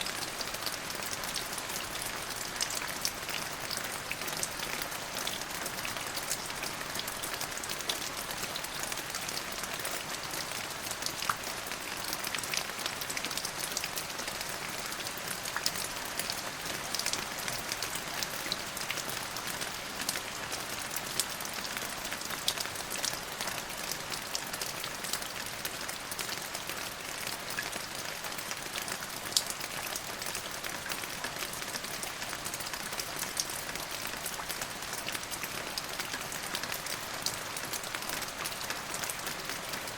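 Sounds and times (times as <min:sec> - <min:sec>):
rain on hard surface: 0:00.0 - 0:39.9.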